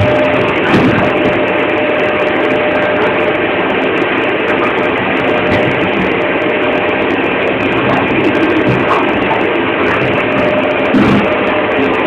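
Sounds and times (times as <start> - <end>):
thin whine: 0.0 - 12.0
vacuum cleaner running: 0.0 - 12.0.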